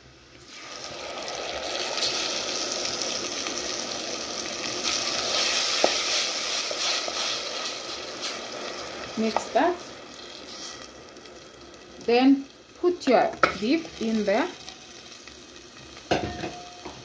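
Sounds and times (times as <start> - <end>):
tomatoes sizzling in pan: 0.0 - 17.0.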